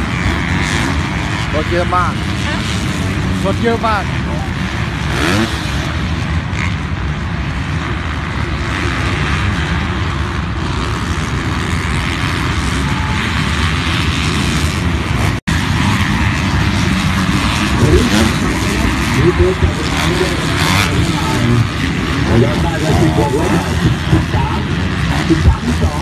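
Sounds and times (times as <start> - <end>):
dirt bike engines droning: 0.0 - 26.0.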